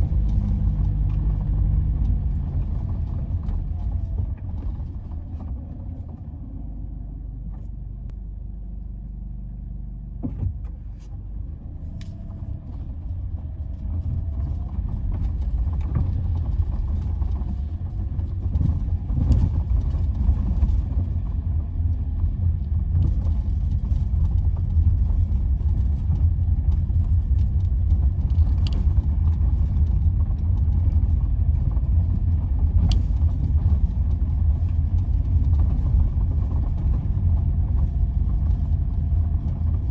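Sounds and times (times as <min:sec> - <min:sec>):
car road rumble from inside: 0:00.0 - 0:39.9.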